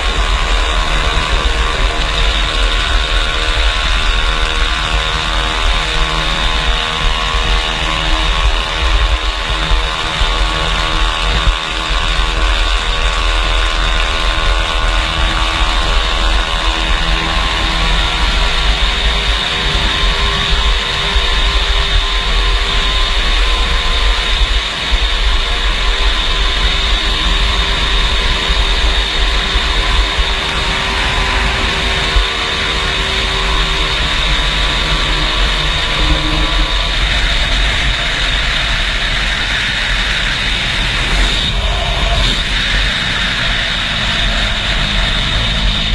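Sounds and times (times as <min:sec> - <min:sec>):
two-stroke motorcycle engine: 0:00.0 - 0:45.9.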